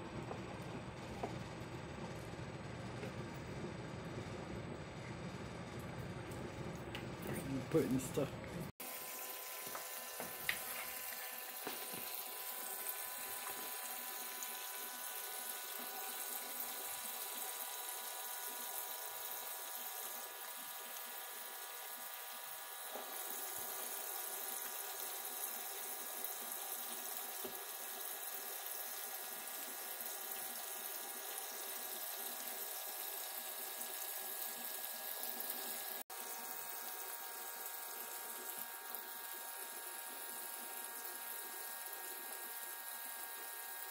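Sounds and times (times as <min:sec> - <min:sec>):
small water pump humming: 0:00.0 - 0:43.9.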